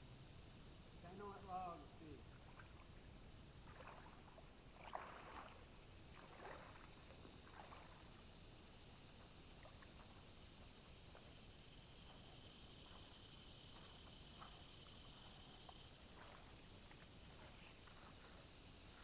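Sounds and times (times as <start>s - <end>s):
steady hiss: 0.0s - 4.8s, 5.5s - 19.0s
paddle splashing in water: 2.3s - 3.0s, 3.6s - 8.3s, 9.2s - 19.0s.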